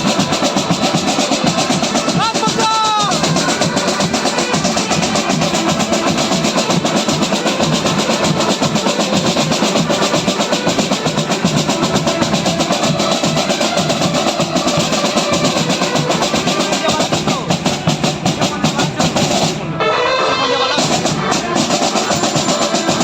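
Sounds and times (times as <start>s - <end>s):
drum band playing: 0.0s - 23.0s.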